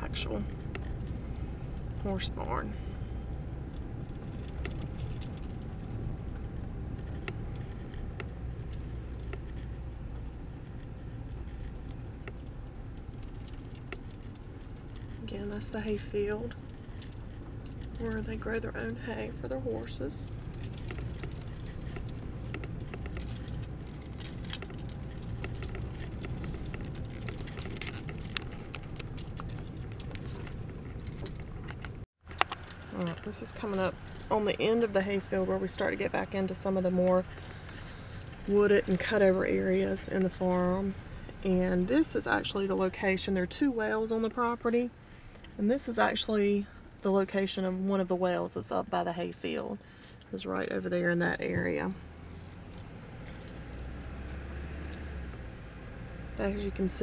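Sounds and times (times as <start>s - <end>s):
small clicks and rattles: 0.0s - 43.2s, 51.5s - 57.0s
tyres crackling on stones: 0.0s - 47.6s
vehicle driving on dirt: 0.0s - 57.0s.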